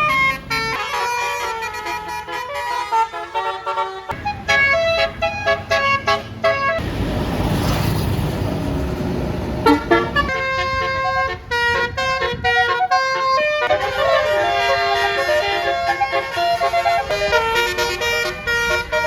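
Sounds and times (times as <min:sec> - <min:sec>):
musical air horn melody: 0:00.0 - 0:06.8, 0:09.6 - 0:19.0.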